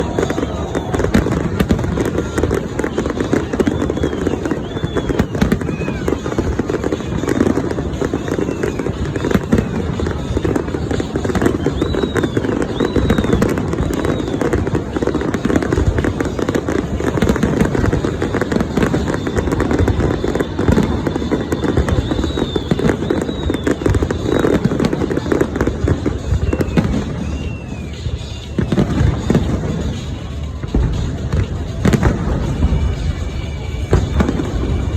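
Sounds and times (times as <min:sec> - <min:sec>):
fireworks crackling and banging: 0:00.0 - 0:34.9
fireworks whistling: 0:00.0 - 0:34.9.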